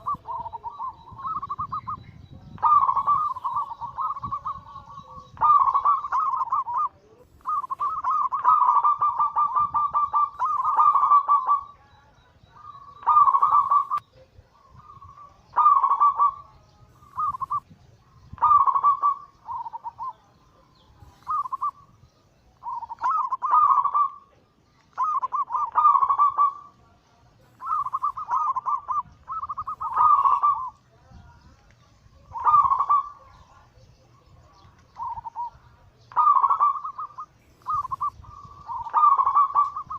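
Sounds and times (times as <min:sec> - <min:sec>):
doves cooing: 0:00.0 - 0:31.0, 0:32.1 - 0:39.9.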